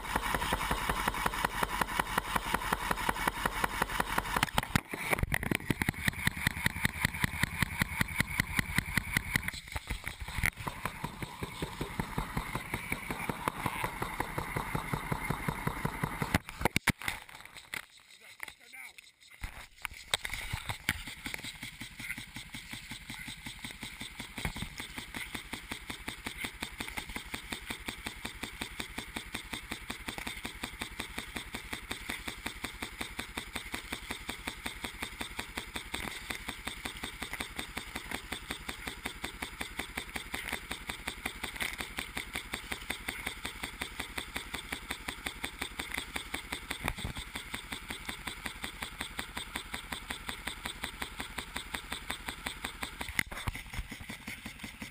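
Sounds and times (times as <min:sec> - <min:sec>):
sprinkler ticking: 0:00.0 - 0:54.9.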